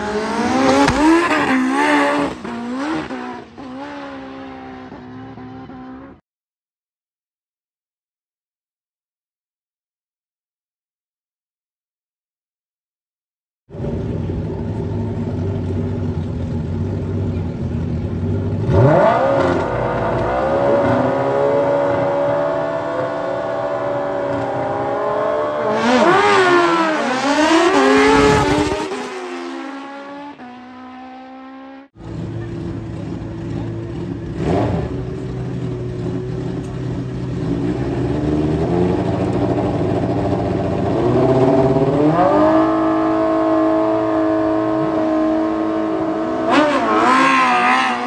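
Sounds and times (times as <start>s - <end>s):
motorcycle engines revving: 0.0s - 6.2s, 13.8s - 48.0s.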